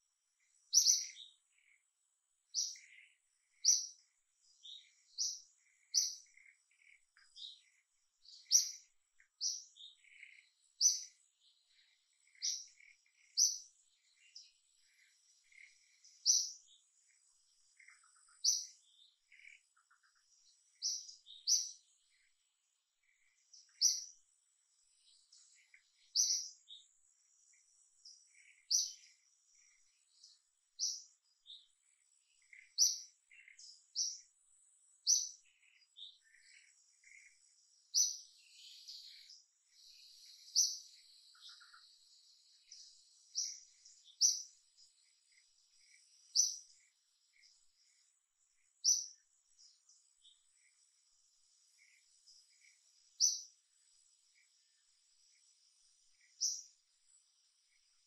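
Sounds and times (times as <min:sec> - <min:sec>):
other birds chirping faintly: 0:00.0 - 0:58.0
songbird high chirp: 0:00.0 - 0:58.0.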